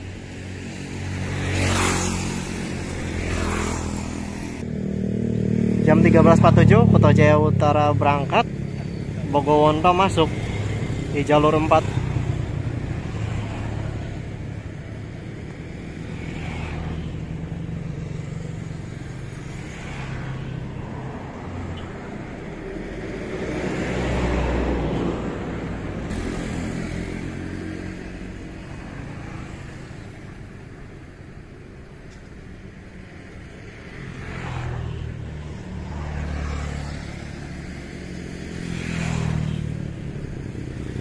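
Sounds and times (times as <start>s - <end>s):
engines droning: 0.0s - 41.0s.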